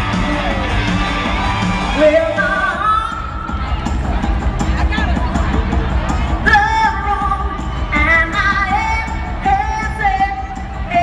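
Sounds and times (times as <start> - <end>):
dance-pop backing track: 0.0 - 11.0
steady bass beat: 0.0 - 11.0.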